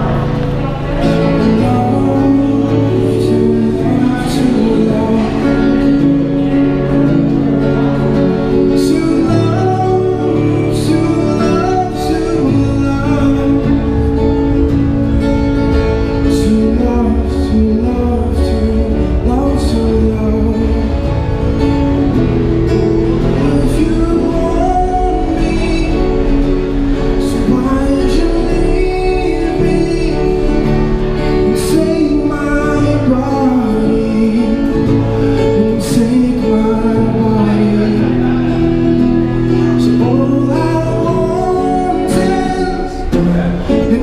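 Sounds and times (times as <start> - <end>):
amplified acoustic guitar strumming: 0.0 - 44.0
man singing: 0.0 - 44.0.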